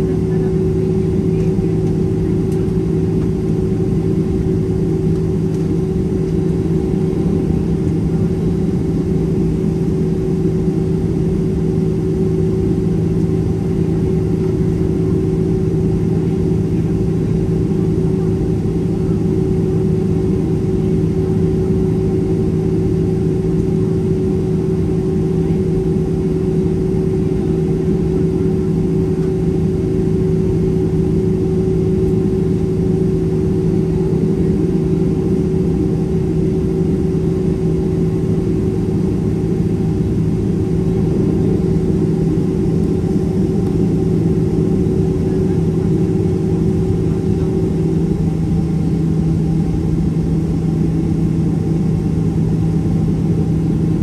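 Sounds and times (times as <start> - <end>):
jet engines idling inside cabin: 0.0 - 54.0.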